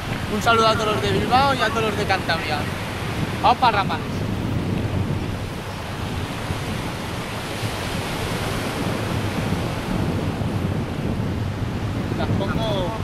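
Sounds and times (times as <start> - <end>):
waves breaking on a sandy beach: 0.0 - 13.0
wind buffeting the microphone: 0.0 - 13.0.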